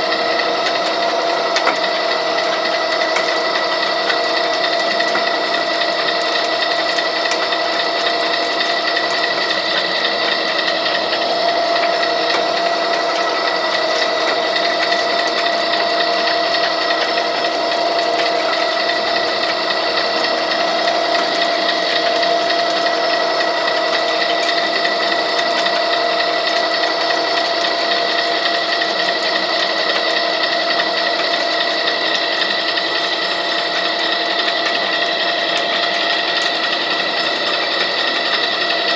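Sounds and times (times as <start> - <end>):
pipe threading machine humming: 0.0 - 38.9.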